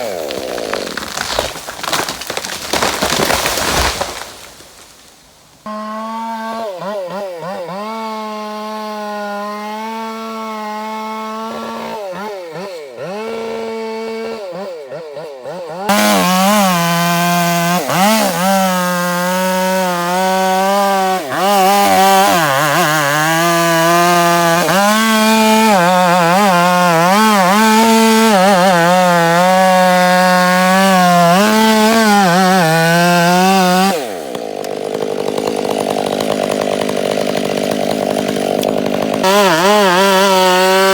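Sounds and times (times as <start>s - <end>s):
chainsaw cutting timber: 0.0s - 40.9s.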